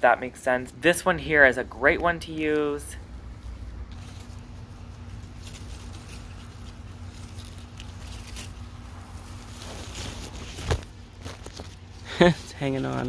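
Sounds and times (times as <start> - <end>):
leaves and stems rustling: 0.0 - 13.0.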